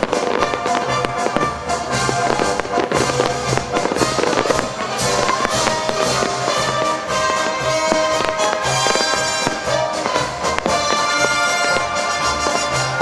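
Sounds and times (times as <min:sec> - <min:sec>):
fireworks bursting and crackling: 0:00.0 - 0:13.0
music playing: 0:00.0 - 0:13.0.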